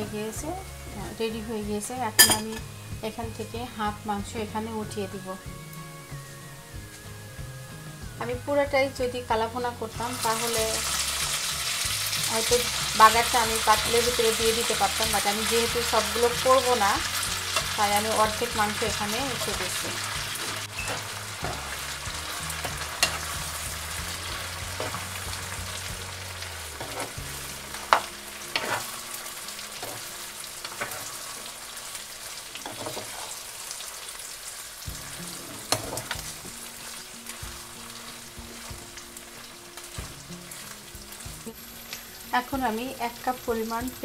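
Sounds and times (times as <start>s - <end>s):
meat sizzling in oil: 0.0s - 44.0s.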